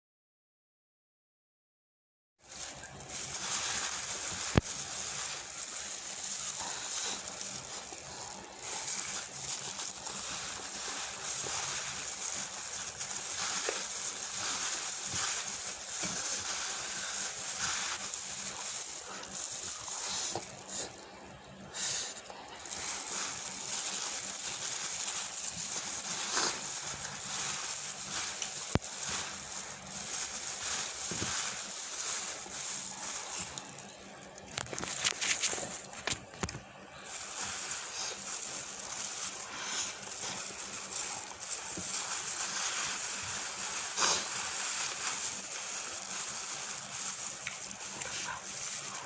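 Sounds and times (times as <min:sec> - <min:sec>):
steady hiss: 0:02.4 - 0:34.3, 0:37.0 - 0:49.0
wet chewing and slurping: 0:02.7 - 0:21.0, 0:21.8 - 0:36.0, 0:37.0 - 0:49.0.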